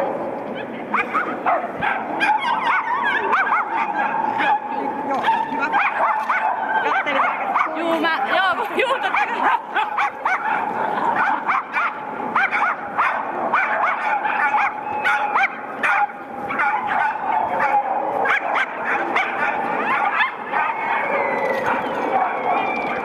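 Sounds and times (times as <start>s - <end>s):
dog barking and yipping: 0.6s - 8.4s, 9.0s - 23.0s.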